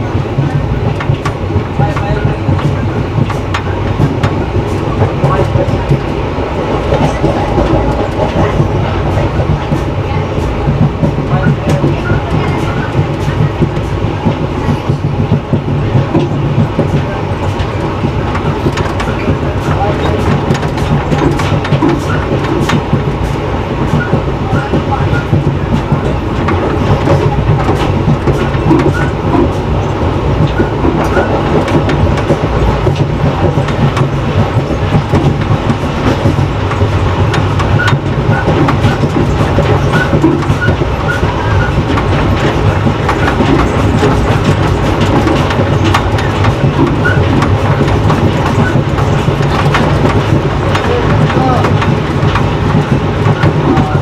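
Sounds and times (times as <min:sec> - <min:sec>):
train rumbling on track: 0:00.0 - 0:54.0
wheels clacking over rail joints: 0:00.0 - 0:54.0.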